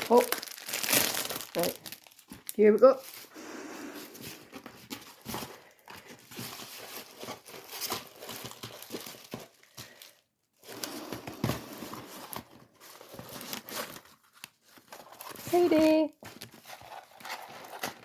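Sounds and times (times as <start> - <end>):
packaging crinkling: 0.0 - 3.3, 4.1 - 18.0.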